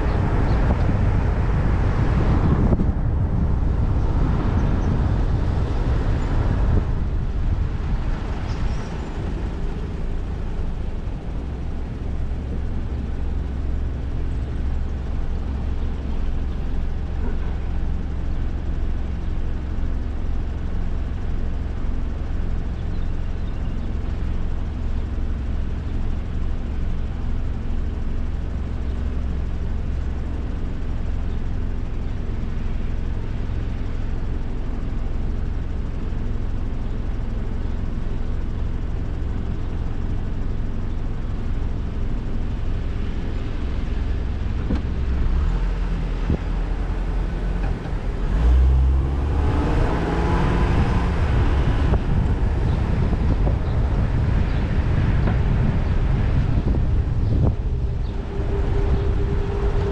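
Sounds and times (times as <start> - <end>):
car driving low rumble: 0.0 - 59.9
passing traffic: 0.0 - 59.9.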